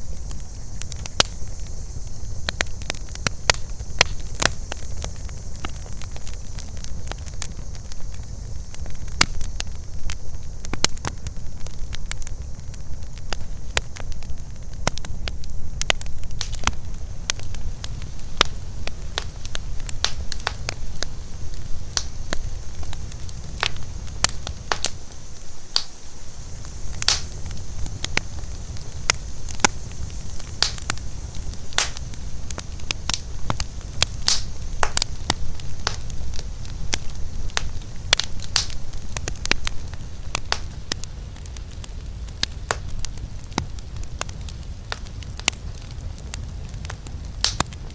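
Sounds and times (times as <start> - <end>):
campfire crackling and popping: 0.0 - 47.9
night insects droning: 0.0 - 47.9.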